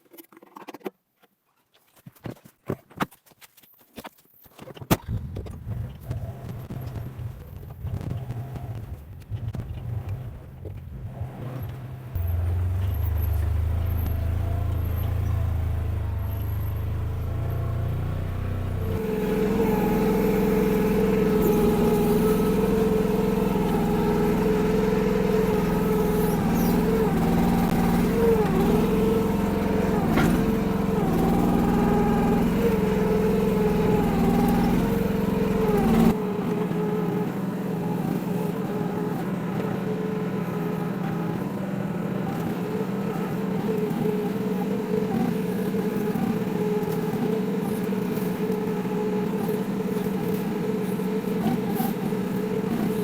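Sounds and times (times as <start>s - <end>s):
excavator engine running: 5.6s - 53.0s.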